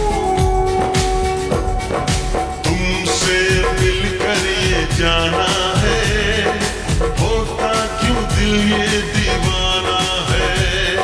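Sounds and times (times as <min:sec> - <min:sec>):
slowed reverb-heavy film song: 0:00.0 - 0:11.0.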